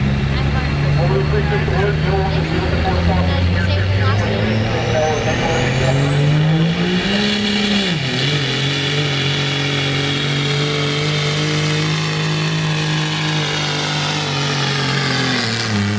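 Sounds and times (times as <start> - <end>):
diesel truck engine revving hard: 0.0 - 15.9.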